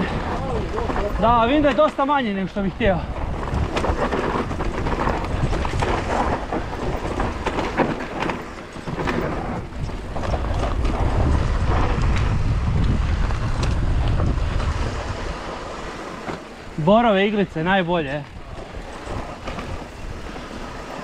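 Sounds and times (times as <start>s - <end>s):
bike rattling over bumps: 0.0s - 21.0s
bike tyres rumbling on dirt: 0.0s - 21.0s
wind buffeting microphone: 0.0s - 21.0s.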